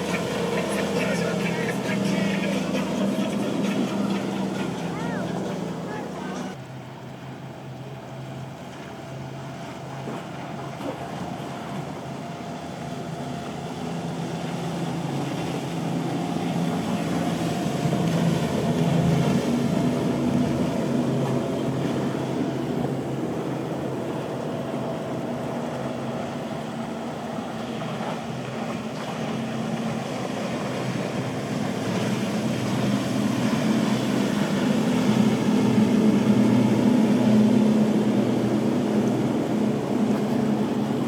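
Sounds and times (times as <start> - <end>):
motorboat engines humming: 0.0 - 41.0.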